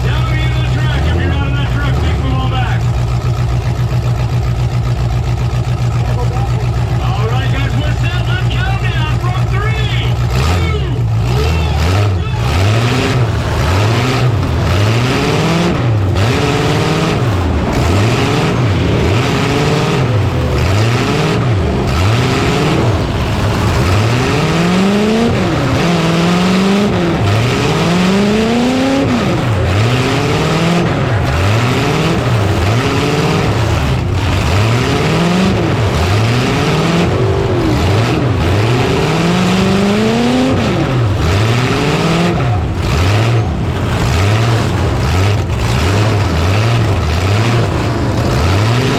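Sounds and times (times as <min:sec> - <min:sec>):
truck engines revving hard: 0:00.0 - 0:48.9.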